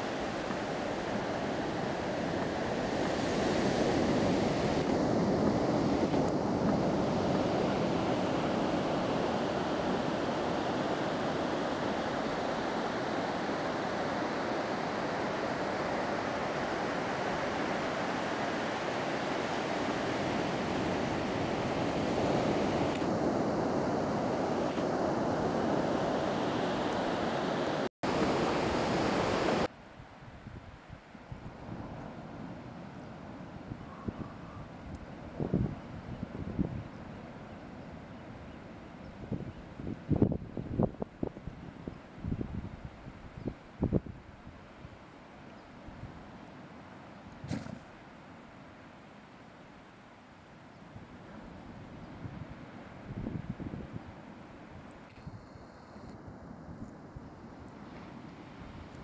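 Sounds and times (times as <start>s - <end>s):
ocean surf: 0.0s - 29.8s, 30.8s - 59.0s
wind on microphone: 0.0s - 45.0s, 51.0s - 59.0s.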